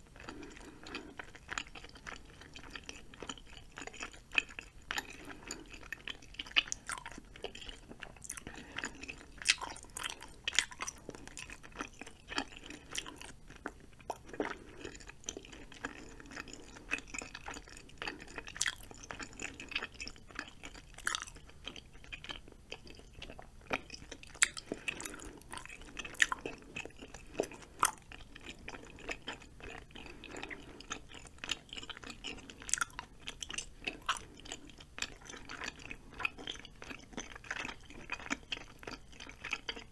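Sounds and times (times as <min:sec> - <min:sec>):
mouth chewing noodles: 0:00.0 - 0:39.9.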